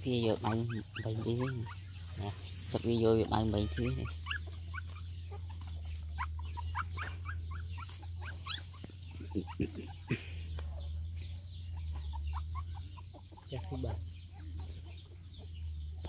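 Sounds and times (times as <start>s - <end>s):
puppies whimpering and squeaking: 0.0s - 16.0s.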